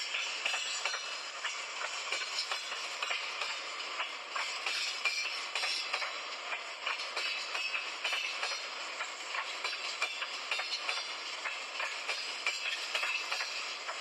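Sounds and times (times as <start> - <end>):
train rushing noise: 0.0 - 14.0
train wheels clicking and rattling: 0.0 - 14.0.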